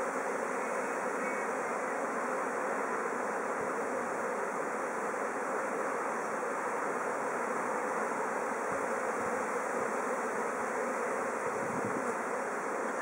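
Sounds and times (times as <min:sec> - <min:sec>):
bees swarming buzzing: 0:00.0 - 0:13.0.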